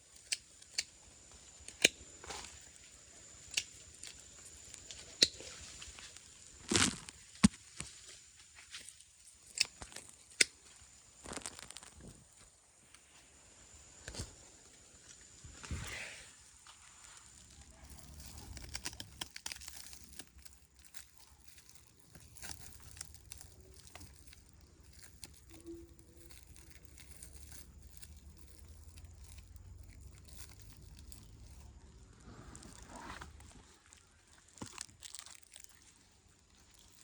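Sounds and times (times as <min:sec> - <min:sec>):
crackling and tearing: 0:00.0 - 0:12.5, 0:17.0 - 0:37.0.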